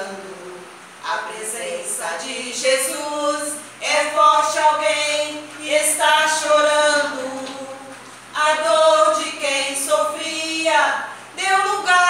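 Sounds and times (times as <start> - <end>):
woman singing slowly: 0.0 - 12.0.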